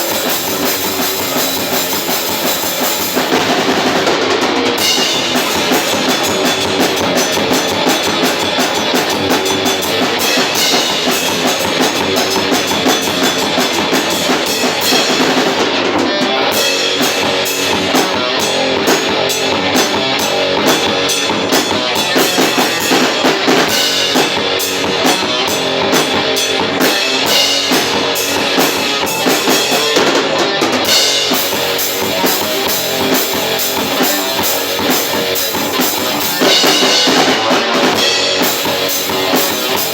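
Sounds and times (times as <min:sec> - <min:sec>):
bass guitar: 0:00.0 - 0:39.9
drum kit fast beats: 0:00.0 - 0:39.9
electric guitar: 0:00.0 - 0:39.9.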